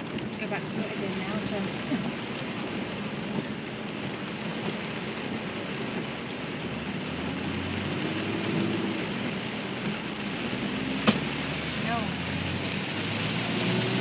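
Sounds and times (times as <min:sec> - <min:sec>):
car engine and road noise: 0:00.0 - 0:14.0
rain on a car: 0:00.0 - 0:14.0.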